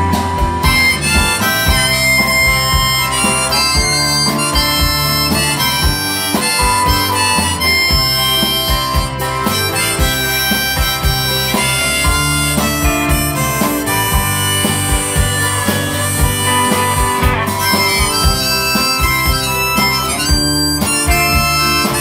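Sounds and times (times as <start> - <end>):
band backing with steady beat: 0.0 - 22.0
harmonica melody: 0.0 - 22.0.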